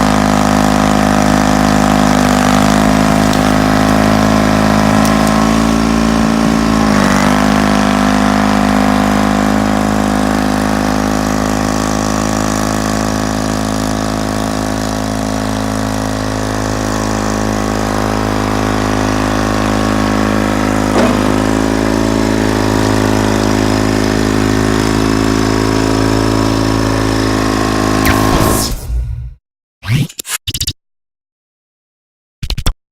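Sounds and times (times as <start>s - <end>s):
diesel tractor engine running: 0.0s - 28.6s.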